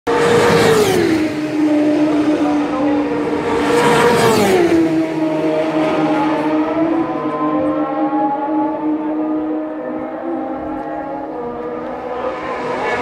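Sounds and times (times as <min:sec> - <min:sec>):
racing motorcycles passing: 0:00.1 - 0:13.0.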